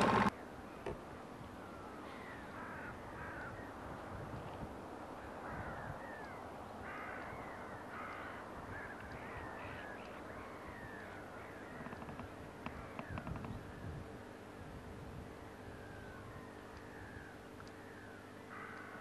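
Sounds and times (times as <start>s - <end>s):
faint bird calls: 0.0s - 3.9s, 5.1s - 19.0s
low background noise: 0.0s - 19.0s.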